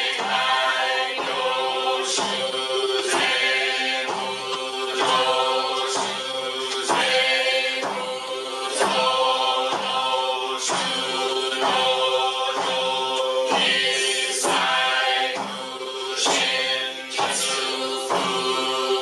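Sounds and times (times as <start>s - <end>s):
group chanting in unison: 0.0s - 19.0s.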